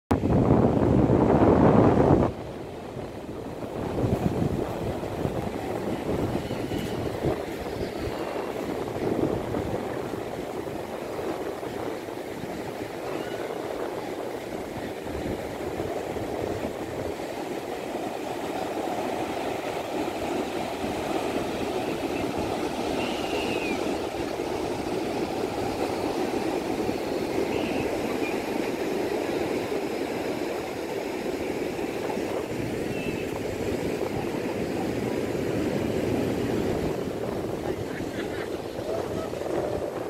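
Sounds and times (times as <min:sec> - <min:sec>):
surf breaking on beach: 0:00.2 - 0:40.0.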